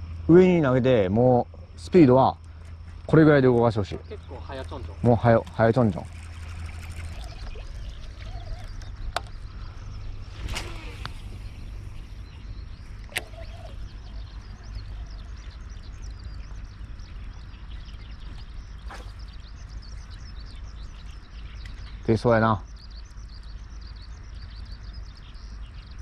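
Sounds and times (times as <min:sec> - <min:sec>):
birds chirping: 0:00.0 - 0:26.0
low steady rumble: 0:00.0 - 0:26.0.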